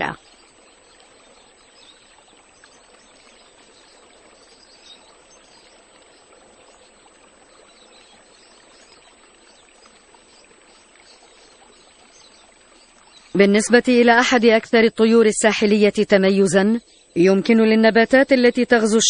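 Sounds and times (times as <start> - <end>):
trickling water: 0.0 - 19.0.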